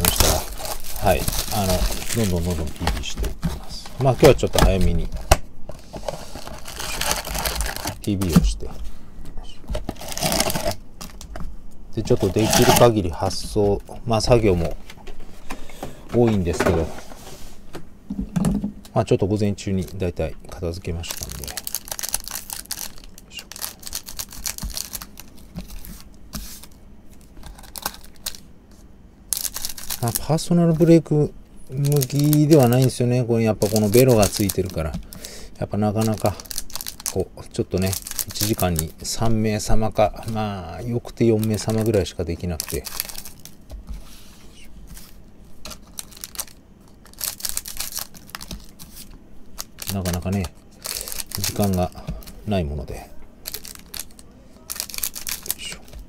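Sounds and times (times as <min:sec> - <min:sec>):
plastic wrappers crinkling: 0:00.0 - 0:08.6, 0:09.7 - 0:11.4, 0:12.0 - 0:14.7, 0:19.6 - 0:28.5, 0:29.3 - 0:44.0, 0:44.9 - 0:56.0.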